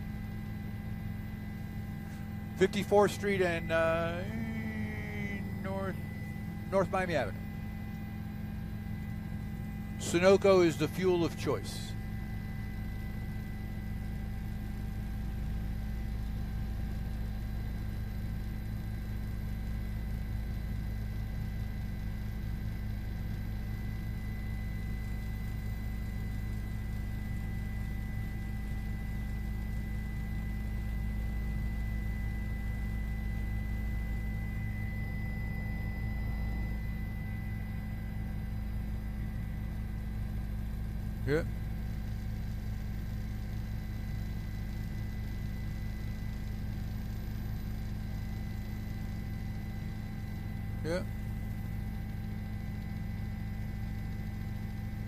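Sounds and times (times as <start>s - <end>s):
helicopter turbine and rotors droning: 0.0s - 55.0s.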